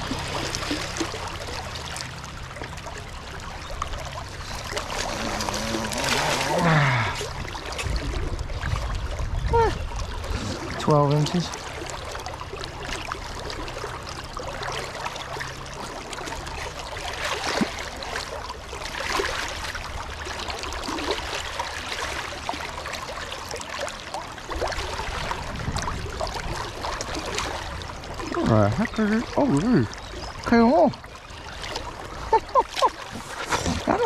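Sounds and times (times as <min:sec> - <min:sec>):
flowing river water: 0:00.0 - 0:34.0
water splashing and sloshing: 0:00.0 - 0:34.0.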